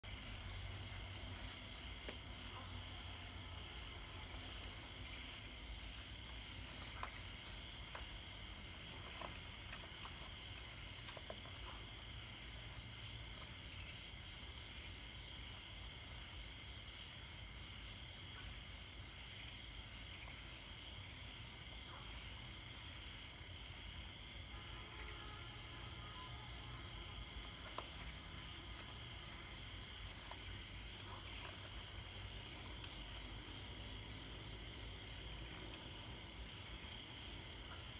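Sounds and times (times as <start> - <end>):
night insects chirping: 0.0 - 37.9.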